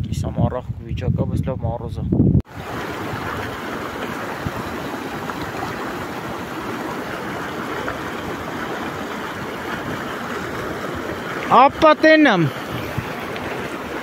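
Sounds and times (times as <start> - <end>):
fast-flowing stream rushing: 2.5 - 14.0.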